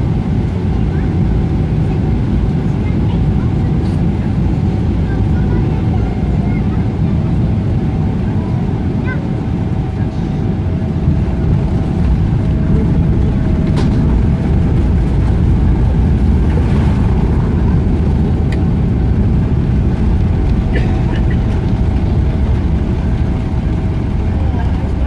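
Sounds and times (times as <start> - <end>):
airliner rumble on runway: 0.0 - 25.0.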